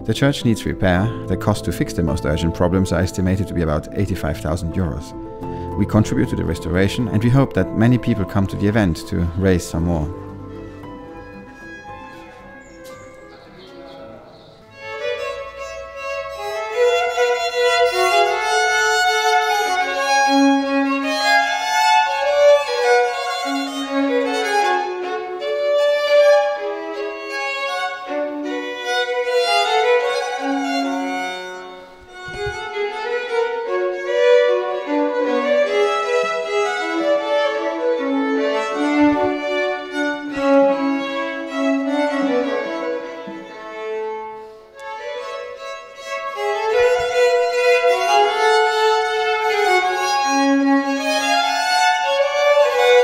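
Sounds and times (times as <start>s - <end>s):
two violins playing a duet: 0.0s - 53.0s.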